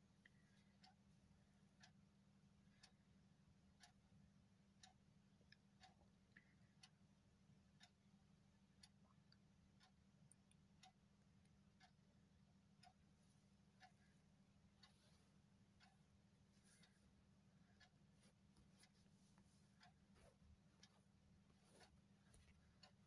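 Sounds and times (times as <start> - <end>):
low steady hum: 0.0 - 23.0
faint even ticking: 0.2 - 23.0.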